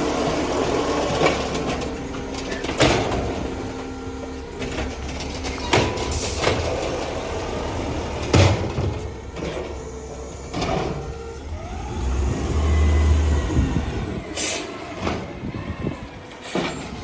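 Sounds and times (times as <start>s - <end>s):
garbage truck bangs and clanks: 0.0s - 17.0s.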